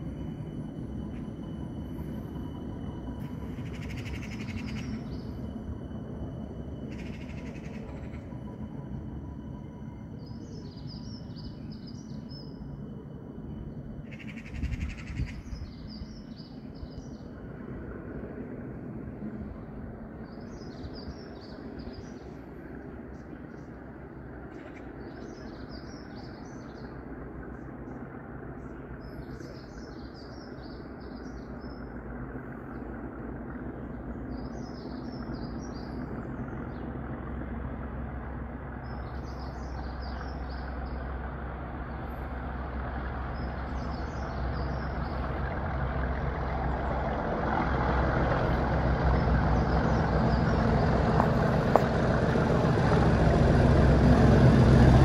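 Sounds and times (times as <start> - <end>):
diesel locomotives working hard: 0.0 - 55.0.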